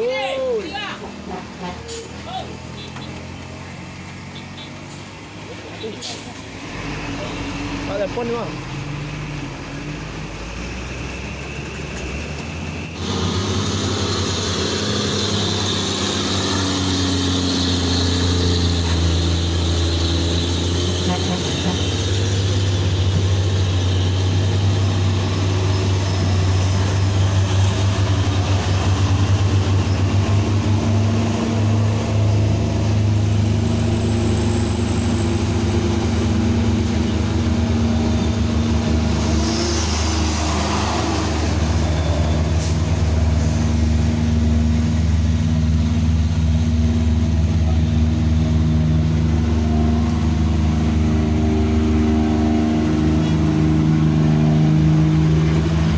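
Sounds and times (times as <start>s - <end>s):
heavy truck engine running: 0.0s - 55.9s.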